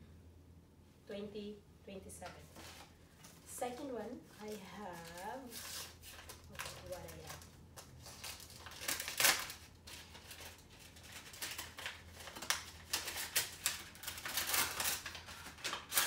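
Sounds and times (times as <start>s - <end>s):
paper envelope rustling: 2.2s - 16.0s.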